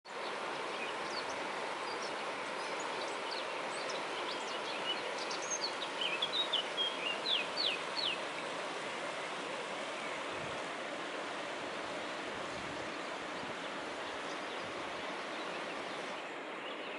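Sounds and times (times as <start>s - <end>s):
river rushing: 0.1s - 16.9s
songbird singing: 0.1s - 16.9s.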